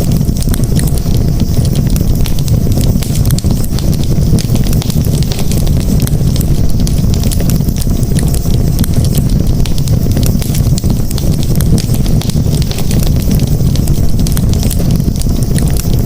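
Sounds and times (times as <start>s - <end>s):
fire crackles and pops: 0.0s - 16.0s
low roar of flames: 0.0s - 16.0s.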